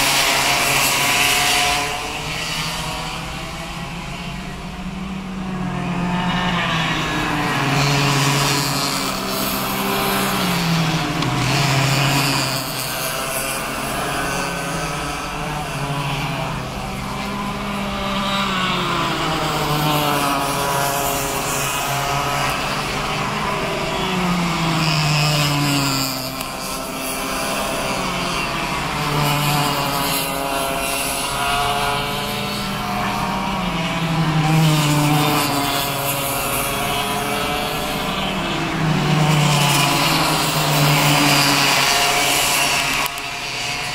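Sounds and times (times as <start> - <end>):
racing kart engines at high revs: 0.0 - 43.9.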